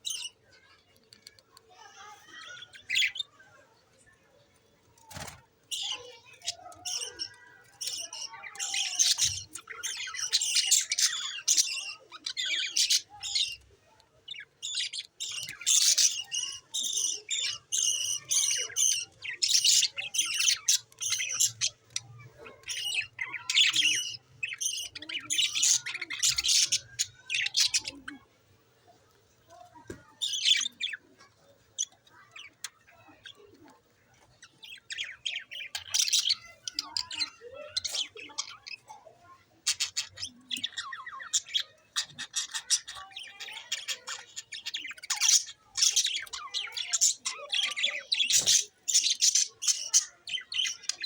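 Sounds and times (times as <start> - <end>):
budgerigars chattering and squawking: 0.0 - 0.6, 2.3 - 3.4, 5.0 - 28.3, 30.0 - 51.0.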